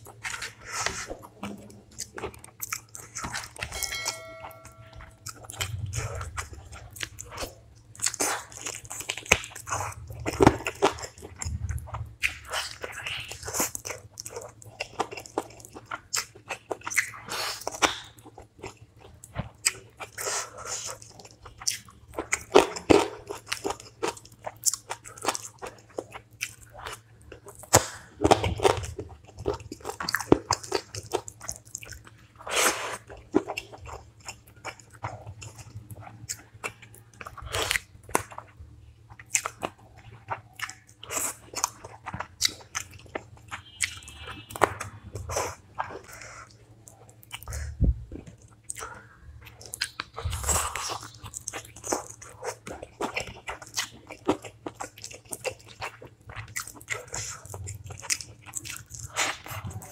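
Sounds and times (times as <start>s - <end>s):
person chewing crunchy food: 0.0s - 3.8s, 4.5s - 59.9s.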